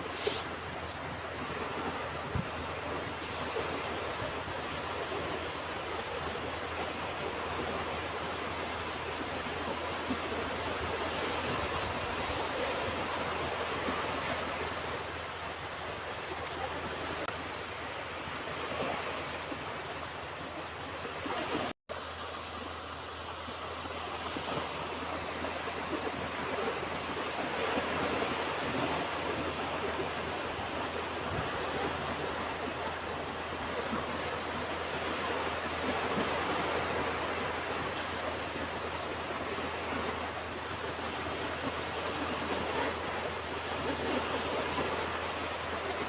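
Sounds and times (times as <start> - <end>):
ocean surf on beach: 0.0 - 46.0.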